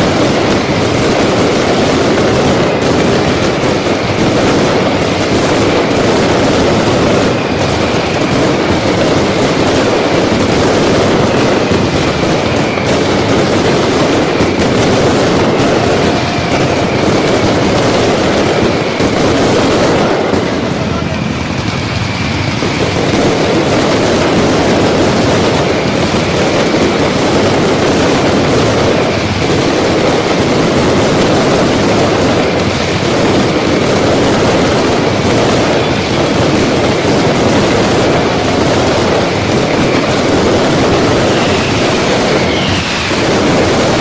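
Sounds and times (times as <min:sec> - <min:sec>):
firework explosions: 0:00.0 - 0:44.0.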